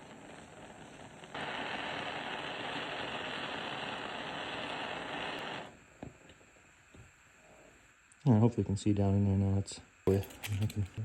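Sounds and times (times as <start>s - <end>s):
gas torch flame hissing: 0.0s - 8.1s, 10.0s - 11.0s.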